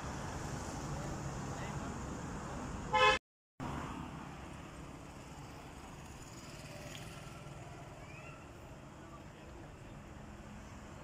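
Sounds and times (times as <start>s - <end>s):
distant road traffic hum: 0.0s - 11.0s.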